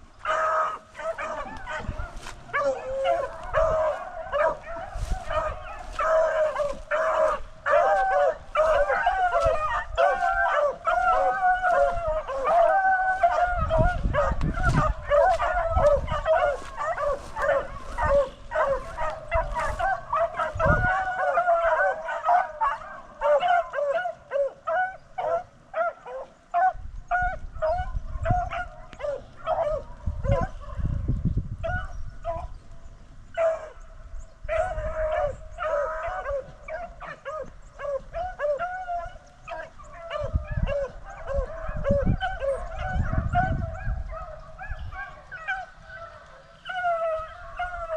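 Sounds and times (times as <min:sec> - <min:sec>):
beagles baying and barking: 0:00.0 - 0:47.9.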